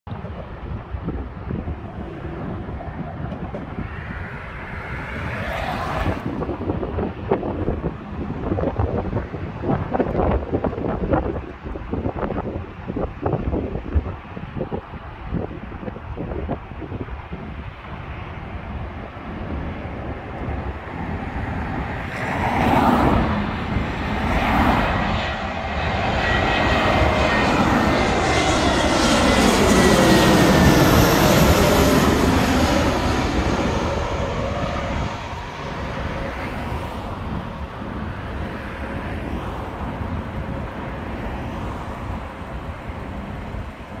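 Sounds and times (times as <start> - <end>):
jet engine passing overhead: 0.1 - 44.0.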